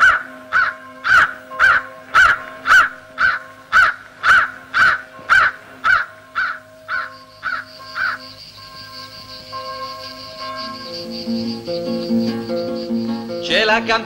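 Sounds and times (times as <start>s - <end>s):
crows cawing: 0.0s - 13.2s
faint steady background tone: 0.0s - 14.0s
high held tone: 0.0s - 14.0s.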